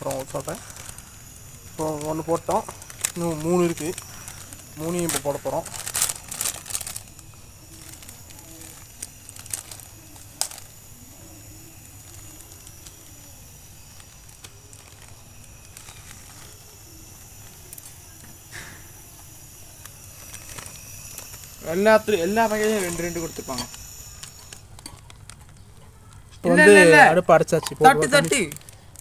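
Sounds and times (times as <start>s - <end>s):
camping stove hissing: 0.0s - 29.0s
crinkles: 0.0s - 29.0s.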